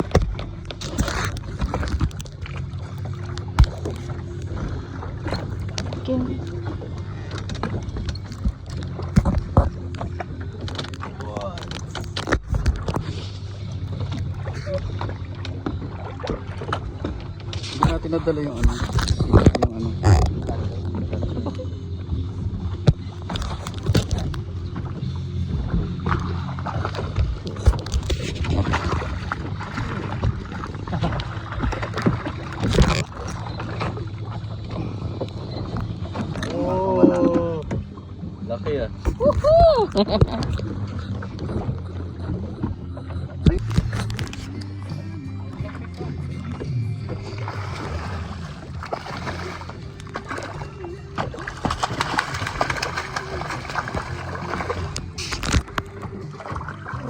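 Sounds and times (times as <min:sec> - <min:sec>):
boat motor running: 0:00.0 - 0:57.0
low steady hum: 0:00.0 - 0:57.0
water splashing against hull: 0:00.0 - 0:57.0.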